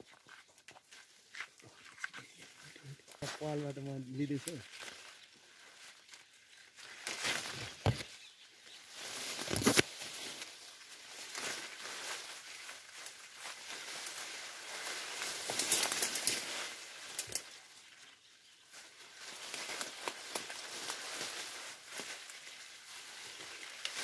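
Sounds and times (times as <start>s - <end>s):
leaves and branches rustling: 0.0s - 24.0s.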